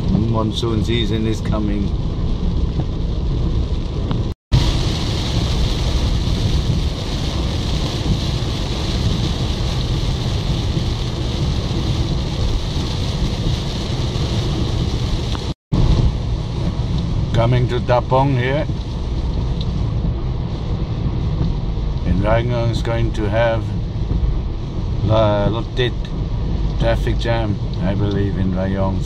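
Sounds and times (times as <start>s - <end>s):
car driving rumble: 0.0s - 29.0s
heavy rain on car: 0.0s - 29.0s.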